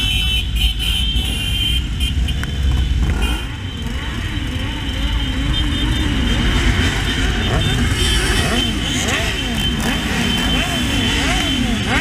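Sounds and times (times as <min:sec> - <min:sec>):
motorcycle engines: 0:00.0 - 0:12.0.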